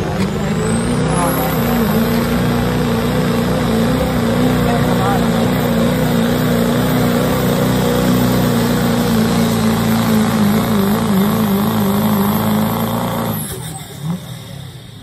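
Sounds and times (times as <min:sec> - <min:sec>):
diesel truck engine at full throttle: 0:00.0 - 0:15.0.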